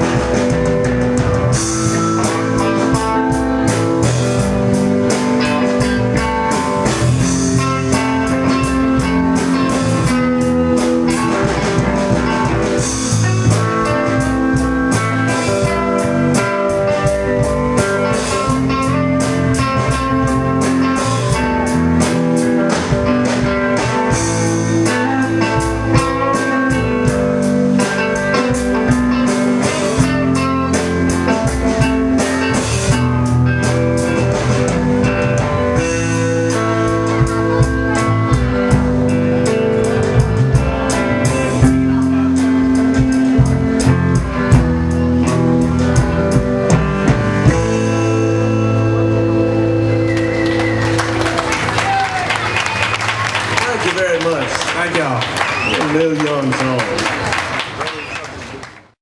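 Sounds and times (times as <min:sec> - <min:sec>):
blues-rock band playing: 0:00.0 - 0:58.6
electric guitar: 0:00.0 - 0:58.8.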